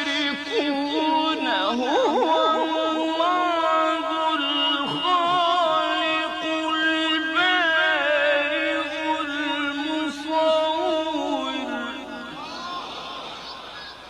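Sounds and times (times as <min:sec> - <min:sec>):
ornamented vocal chanting: 0:00.0 - 0:13.6.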